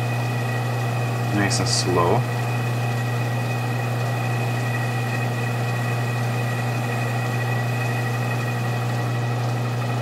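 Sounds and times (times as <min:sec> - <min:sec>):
high steady whine: 0:00.0 - 0:10.0
metal lathe running: 0:00.0 - 0:10.0.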